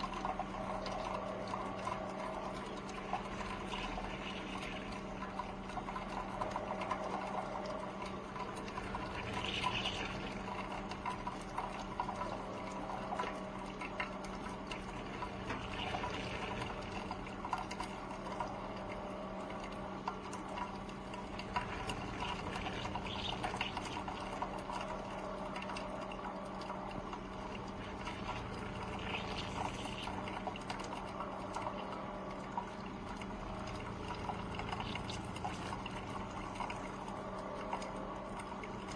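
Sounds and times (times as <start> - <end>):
coffee maker humming: 0.0 - 38.9
small ticks: 0.0 - 38.9
water trickling and dripping: 0.0 - 38.9.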